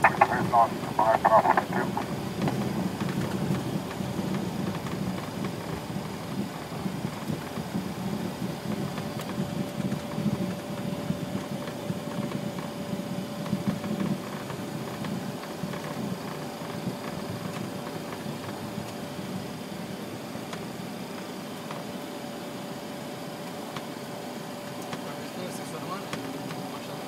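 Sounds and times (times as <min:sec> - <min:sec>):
faint steady whine: 0:00.0 - 0:27.0
jet engines idling rumble: 0:00.0 - 0:27.0.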